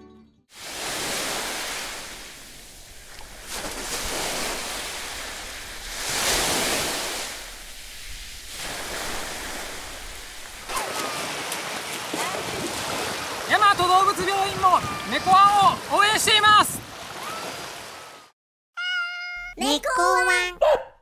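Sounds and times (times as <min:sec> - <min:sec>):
sea waves washing: 0:00.5 - 0:18.3.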